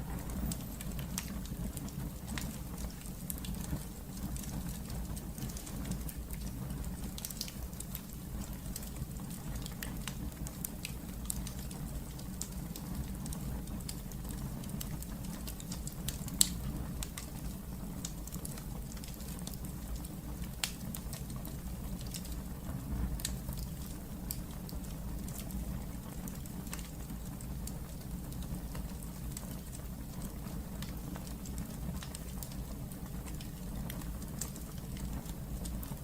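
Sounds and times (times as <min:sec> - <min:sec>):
low rumble of flames: 0:00.0 - 0:36.0
wood fire crackling: 0:00.0 - 0:36.0.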